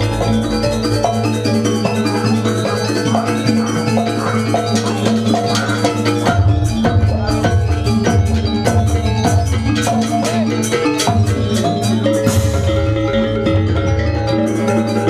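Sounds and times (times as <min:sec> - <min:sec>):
drums: 0:00.0 - 0:15.0
metallophones ringing: 0:00.0 - 0:15.0.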